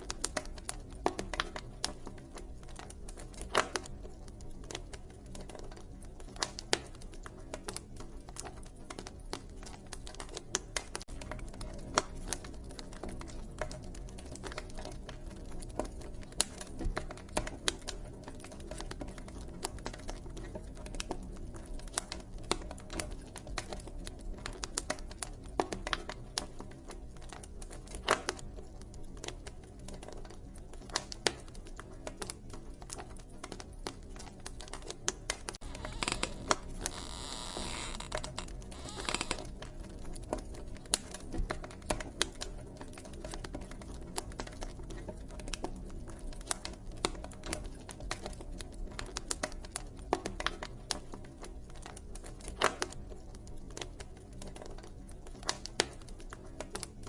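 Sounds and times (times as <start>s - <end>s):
wood fire crackling and popping: 0.0s - 57.0s
burning logs shifting: 0.1s - 57.0s.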